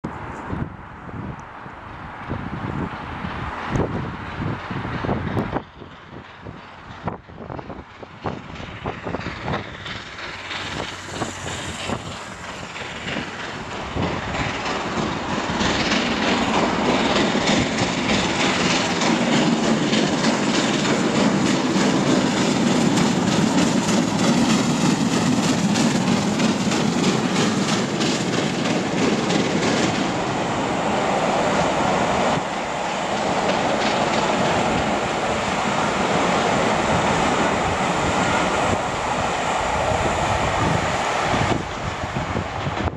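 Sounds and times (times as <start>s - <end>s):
steam locomotive exhaust beats: 2.4s - 42.9s.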